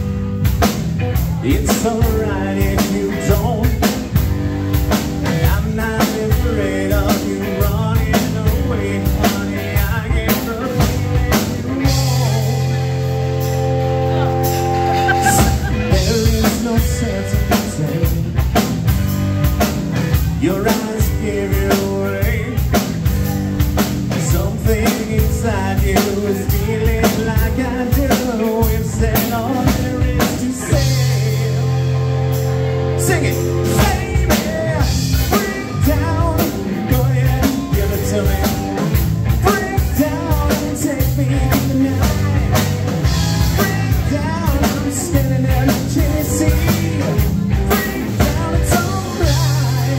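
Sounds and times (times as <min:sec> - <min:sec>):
bass guitar: 0:00.0 - 0:49.9
drum kit: 0:00.0 - 0:49.9
electric guitar: 0:00.0 - 0:49.9
man singing: 0:01.0 - 0:18.9, 0:20.0 - 0:49.9.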